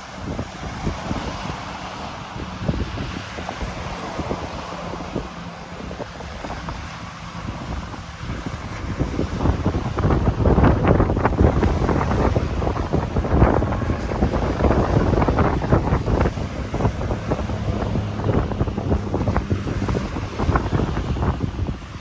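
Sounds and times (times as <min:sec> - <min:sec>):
ocean waves breaking: 0:00.0 - 0:22.0
wind buffeting microphone: 0:00.0 - 0:22.0.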